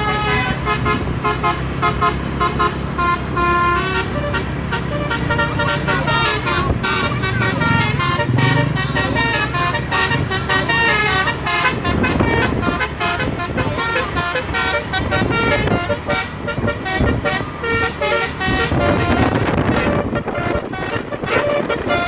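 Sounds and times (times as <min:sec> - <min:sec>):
engine and road rumble: 0:00.0 - 0:22.0
multi-tone air horn tooting: 0:00.0 - 0:22.0.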